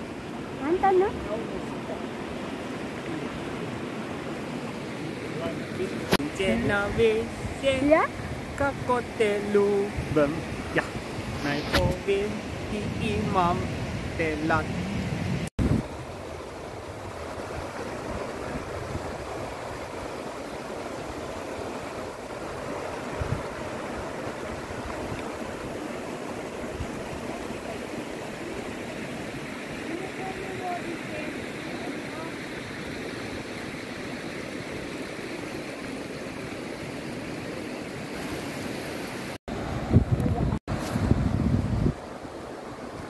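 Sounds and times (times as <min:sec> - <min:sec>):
river rushing over boulders: 0:00.0 - 0:43.0.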